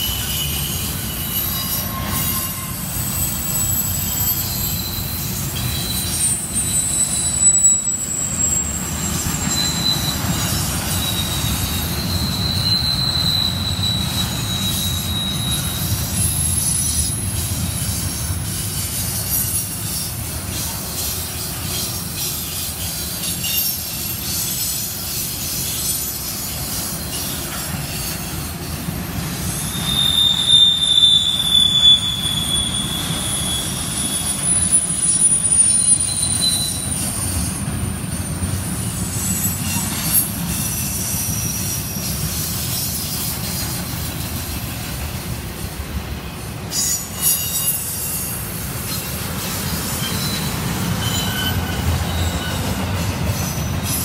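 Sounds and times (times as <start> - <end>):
high-pitched wheel squeals: 0.0 - 45.0, 46.4 - 54.0
steel wheels rumbling on rail: 0.0 - 54.0.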